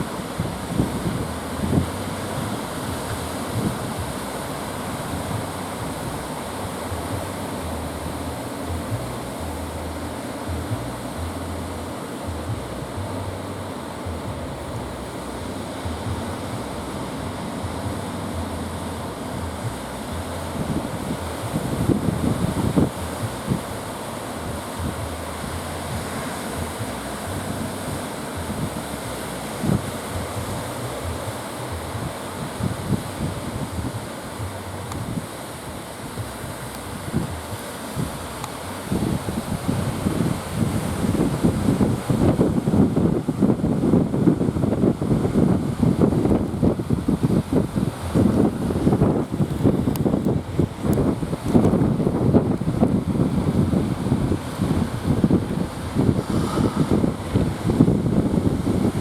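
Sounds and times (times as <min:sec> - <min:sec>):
ocean surf breaking: 0:00.0 - 0:59.0
wind blowing across microphone: 0:00.0 - 0:59.0.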